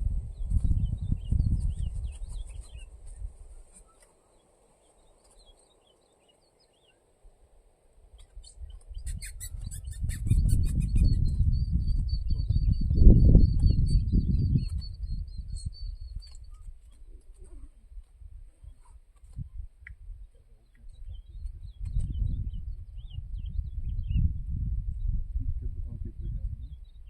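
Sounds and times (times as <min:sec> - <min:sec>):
low rumbling microphone buffeting: 0:00.0 - 0:03.9, 0:08.2 - 0:27.0
small birds chirping: 0:00.0 - 0:27.0.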